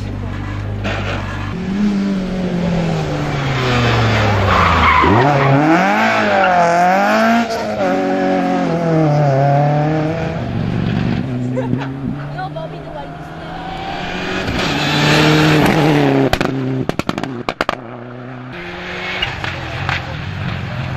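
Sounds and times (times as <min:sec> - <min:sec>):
rally car engine revving: 0:00.0 - 0:20.9.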